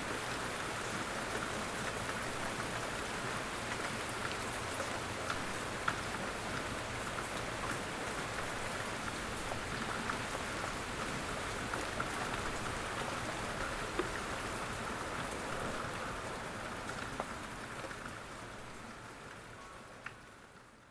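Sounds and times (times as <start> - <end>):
steady rain falling: 0.0 - 20.9
raindrops ticking nearby: 0.5 - 20.9.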